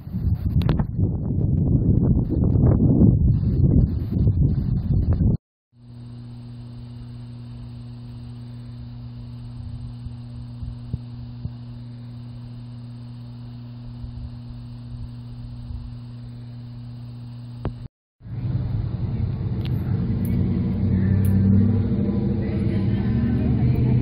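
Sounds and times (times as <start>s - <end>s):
low hum of machinery: 0.0s - 24.0s.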